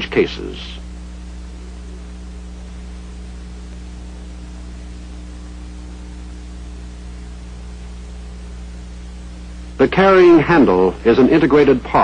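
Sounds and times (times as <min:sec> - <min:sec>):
film soundtrack hiss: 0:00.0 - 0:12.0
low mains hum: 0:00.0 - 0:12.0.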